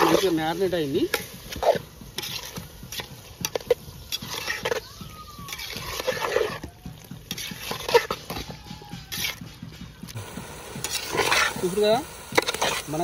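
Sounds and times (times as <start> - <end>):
spoon stirring thick mixture: 0.0 - 13.0.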